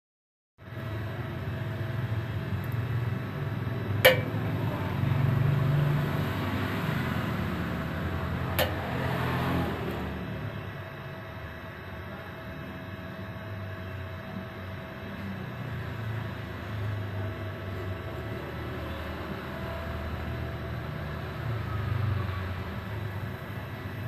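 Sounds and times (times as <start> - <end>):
welding machine hum and crackle: 0.7 - 21.6.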